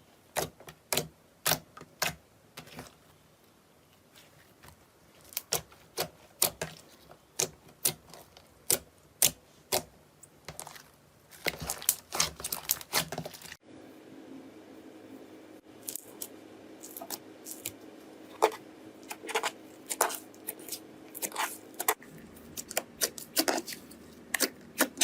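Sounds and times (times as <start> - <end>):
quiet steady background: 0.0 - 25.0.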